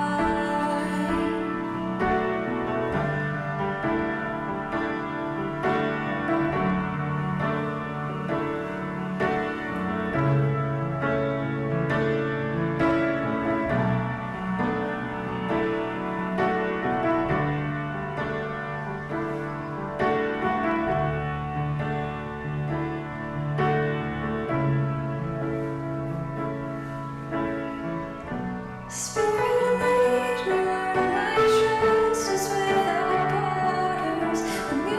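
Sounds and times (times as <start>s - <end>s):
slow piano chords: 0.0s - 34.9s.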